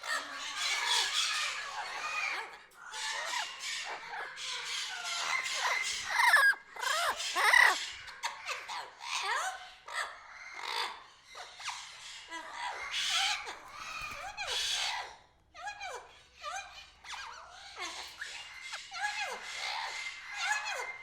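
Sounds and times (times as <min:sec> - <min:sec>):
birds squawking and chirping: 0:00.0 - 0:21.0.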